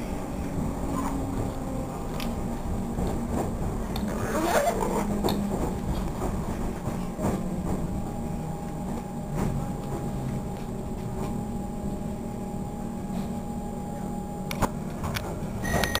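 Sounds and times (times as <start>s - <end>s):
train running gear rumbling: 0.0s - 16.0s.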